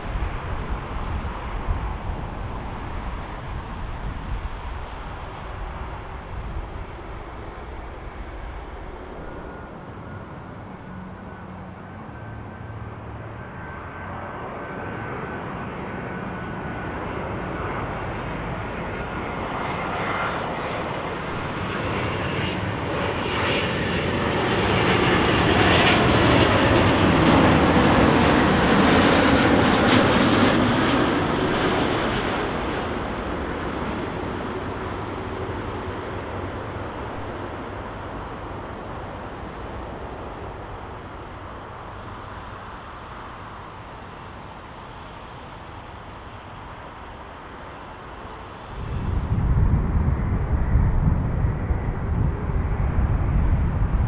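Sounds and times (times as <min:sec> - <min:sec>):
faint high whine: 0:00.0 - 0:26.7, 0:31.1 - 0:53.6
jet engines on approach: 0:00.0 - 0:54.0.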